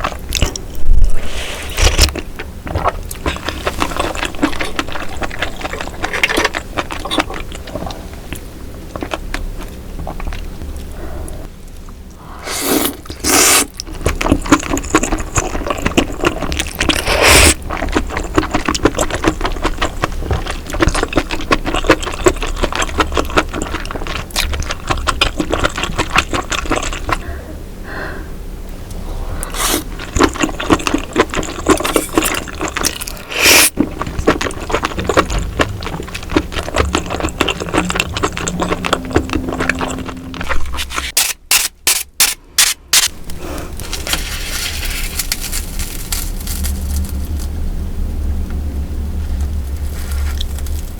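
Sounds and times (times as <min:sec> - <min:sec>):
wet chewing and smacking: 0:00.0 - 0:11.8, 0:12.5 - 0:27.4, 0:29.4 - 0:44.3.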